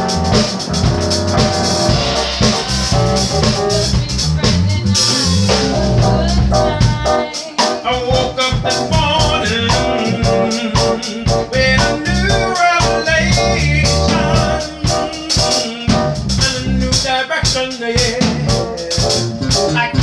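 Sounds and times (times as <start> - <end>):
keyboard played over a beat: 0.0 - 20.0
person singing: 1.9 - 20.0.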